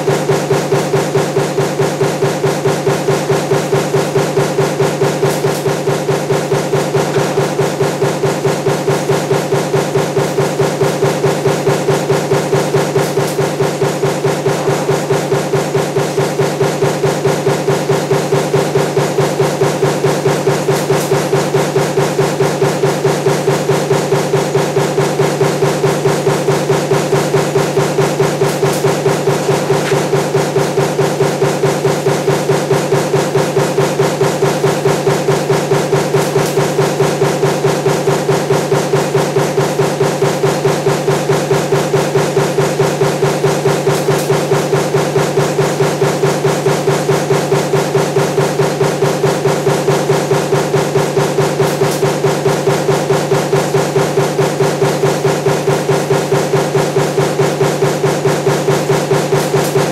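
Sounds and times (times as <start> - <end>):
punch press striking: 0.0 - 59.9
steady machine hum: 0.0 - 59.9.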